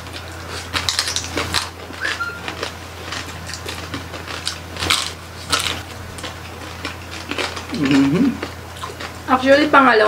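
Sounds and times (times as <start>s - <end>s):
steady low hum: 0.0s - 10.0s
wet chewing and lip smacks: 0.5s - 9.2s.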